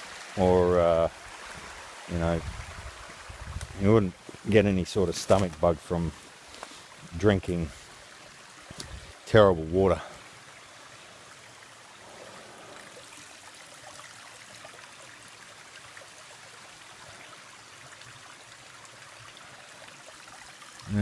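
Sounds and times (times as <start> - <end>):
faint creek flowing: 0.0 - 21.0.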